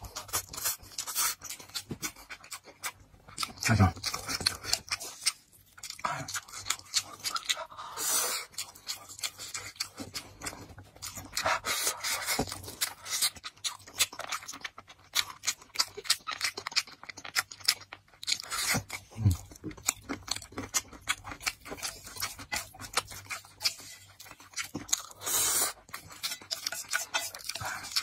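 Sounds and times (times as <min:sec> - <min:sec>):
chewing with wet smacks: 0:00.0 - 0:28.0.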